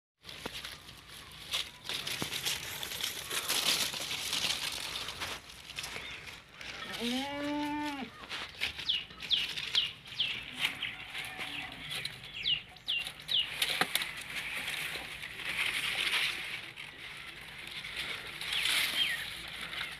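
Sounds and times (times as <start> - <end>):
dry leaves rustling and crackling: 0.2 - 19.9
small birds chirping: 0.5 - 16.1, 16.8 - 19.9
drawn-out animal call: 1.5 - 19.9.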